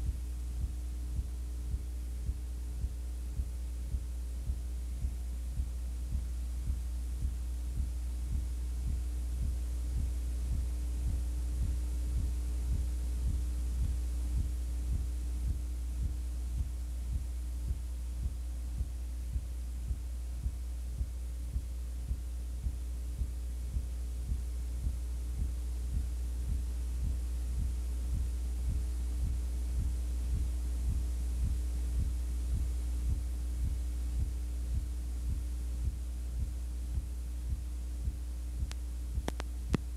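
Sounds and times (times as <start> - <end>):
low electrical hum: 0.0 - 39.9
regular throbbing pulse: 0.0 - 39.9.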